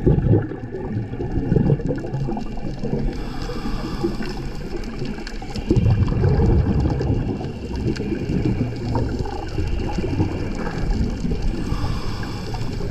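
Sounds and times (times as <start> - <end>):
bubbling surge: 0.0 - 12.9
muffled underwater rumble: 0.0 - 12.9.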